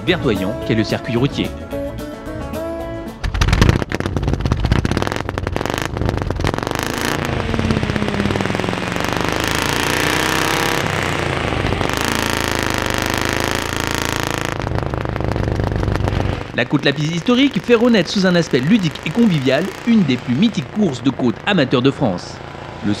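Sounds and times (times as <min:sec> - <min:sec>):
car engine pulling away: 0:00.0 - 0:23.0.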